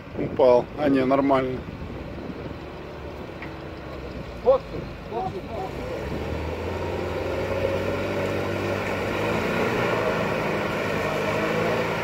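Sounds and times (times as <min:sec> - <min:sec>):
off-road vehicle engine under load: 0:00.0 - 0:12.0
water churning around wheels: 0:00.4 - 0:12.0.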